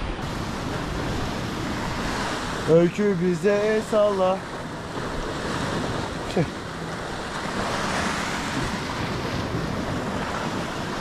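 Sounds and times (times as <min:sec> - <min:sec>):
sea waves washing on shore: 0:00.0 - 0:11.0
wind on microphone: 0:00.0 - 0:11.0.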